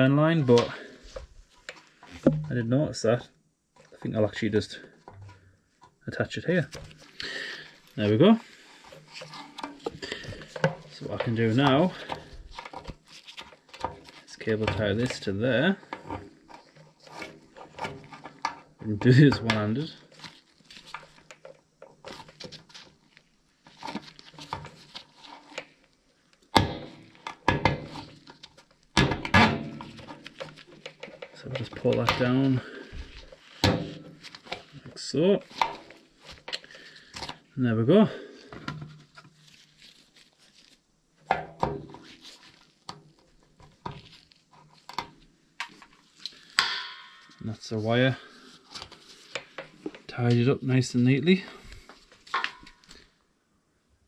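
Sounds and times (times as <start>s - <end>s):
gloved hands rustling: 3.8s - 28.9s, 29.6s - 53.2s.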